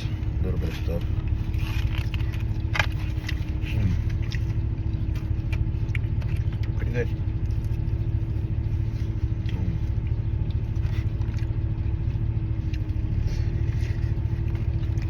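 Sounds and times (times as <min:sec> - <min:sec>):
car engine idling: 0:00.0 - 0:15.0
faint chewing: 0:00.0 - 0:15.0.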